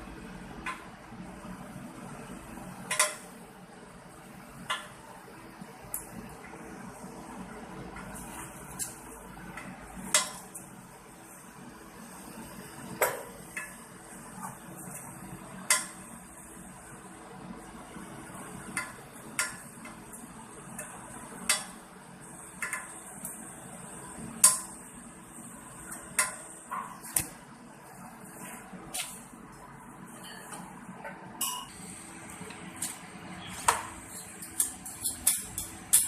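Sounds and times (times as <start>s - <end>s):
faint hiss and hum: 0.0s - 36.0s.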